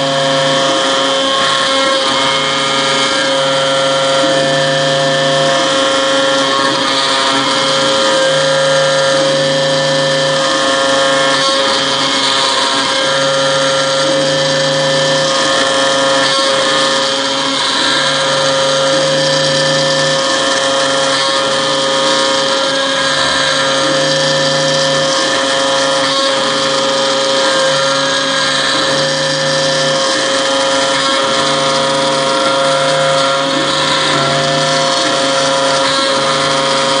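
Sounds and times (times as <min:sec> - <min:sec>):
router spindle high whine: 0:00.0 - 0:37.0.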